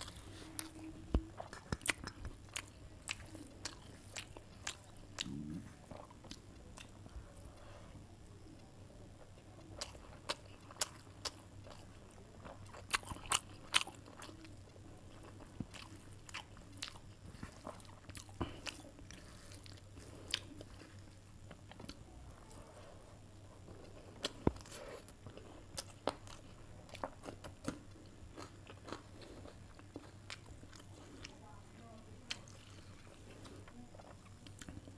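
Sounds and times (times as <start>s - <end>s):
person chewing food: 0.0s - 8.0s, 8.6s - 34.9s
faint low hum: 0.0s - 34.9s.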